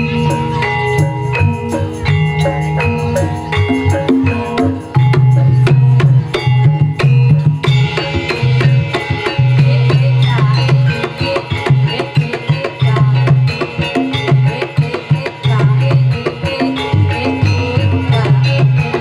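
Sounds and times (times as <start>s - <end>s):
ringing metallophone notes: 0.0s - 19.0s.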